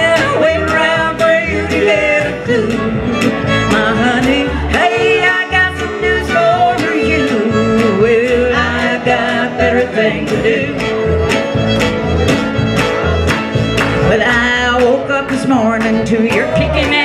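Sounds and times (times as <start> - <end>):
country band playing: 0.0 - 17.0
fiddle: 0.0 - 17.0.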